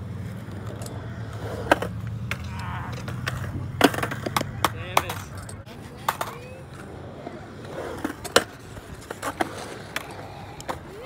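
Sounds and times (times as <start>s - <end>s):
skateboard wheels rolling on concrete: 0.0s - 11.0s
skateboard clacking on concrete: 0.1s - 11.0s.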